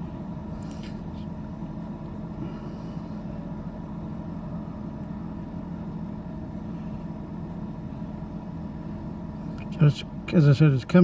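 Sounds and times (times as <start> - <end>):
fridge compressor and fan humming: 0.0 - 11.0.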